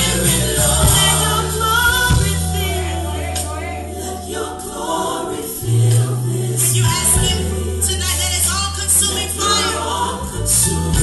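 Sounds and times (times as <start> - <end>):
choir singing gospel song: 0.0 - 11.0
long held bass notes: 0.0 - 11.0.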